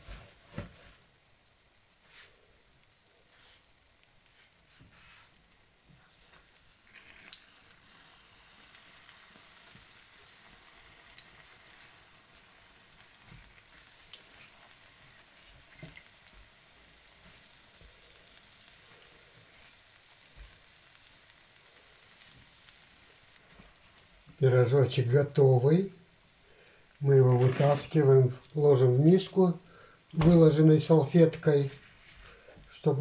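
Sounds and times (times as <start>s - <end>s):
oil sizzling in a pan: 0.0s - 33.0s.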